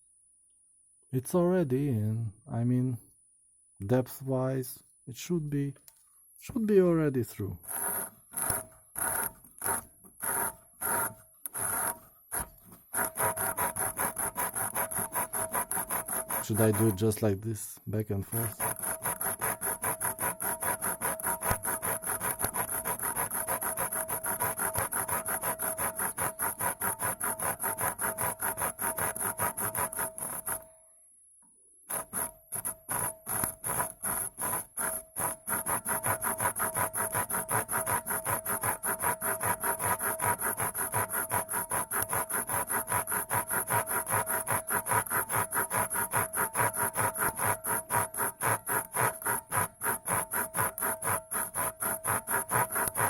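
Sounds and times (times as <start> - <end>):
hand saw rasping on glass: 7.6 - 17.3, 18.2 - 30.7, 31.9 - 53.0.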